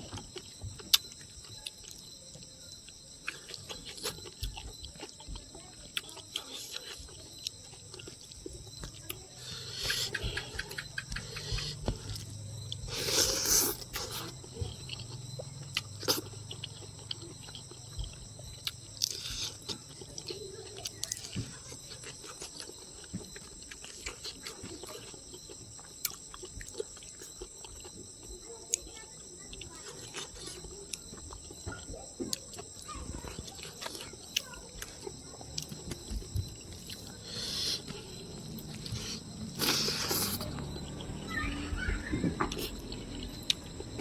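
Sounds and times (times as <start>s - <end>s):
person chewing food: 0.0s - 44.0s.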